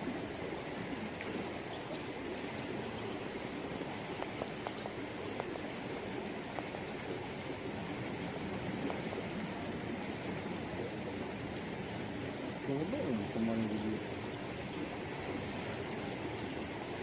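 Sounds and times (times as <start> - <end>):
river current rushing: 0.0 - 17.0.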